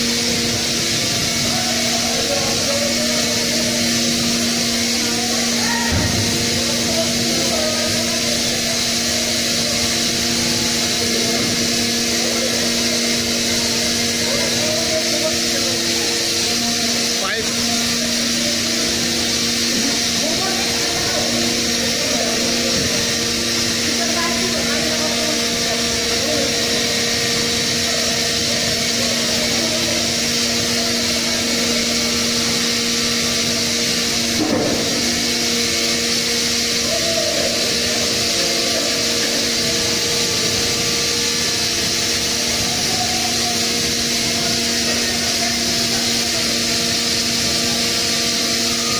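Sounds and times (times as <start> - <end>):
heavy machinery droning: 0.0 - 48.9.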